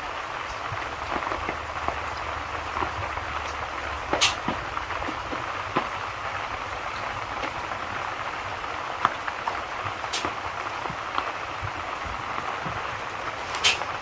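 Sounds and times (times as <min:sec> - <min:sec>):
steady rain hiss: 0:00.0 - 0:14.0
wood fire crackling and popping: 0:00.0 - 0:14.0.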